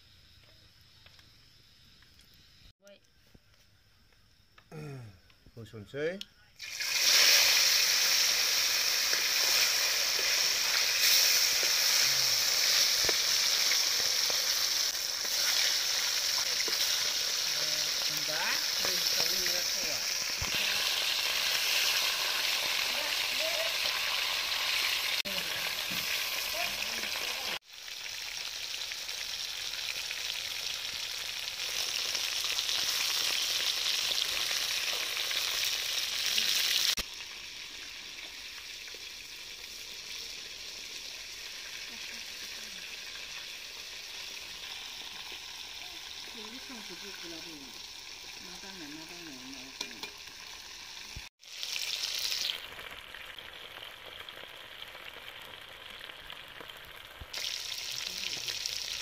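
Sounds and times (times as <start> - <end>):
fish sizzling in hot oil: 6.6 - 59.0.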